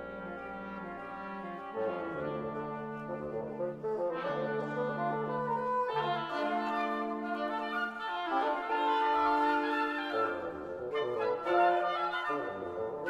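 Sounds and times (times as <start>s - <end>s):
woodwind quintet playing chords: 0.0s - 13.0s.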